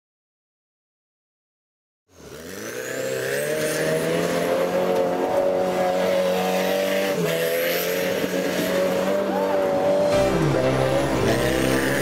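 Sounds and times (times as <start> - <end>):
buggy engine revving: 2.1 - 12.0.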